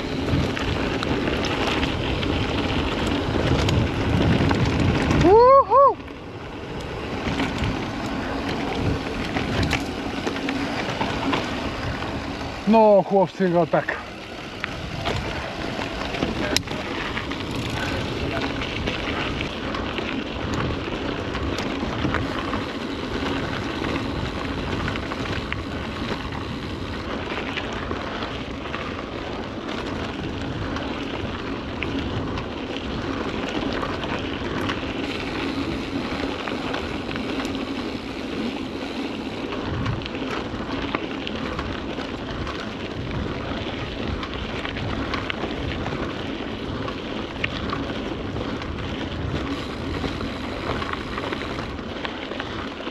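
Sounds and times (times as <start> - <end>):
wind noise on microphone: 0.0 - 13.0, 14.0 - 52.9
bike rattling over bumps: 0.0 - 52.9
tyres on rough trail: 0.0 - 52.9.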